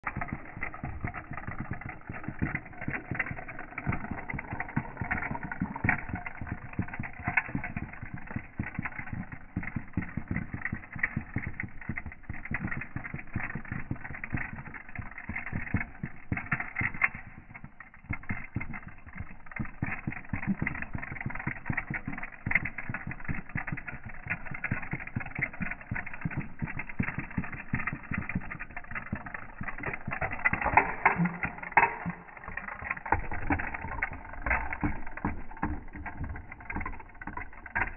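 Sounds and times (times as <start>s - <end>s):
wind-up toy clicking rattle: 0.0s - 37.9s.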